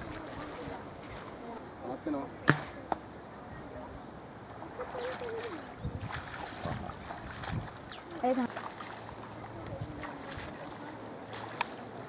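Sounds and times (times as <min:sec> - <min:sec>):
faint voices: 0:00.0 - 0:06.0, 0:08.0 - 0:12.0.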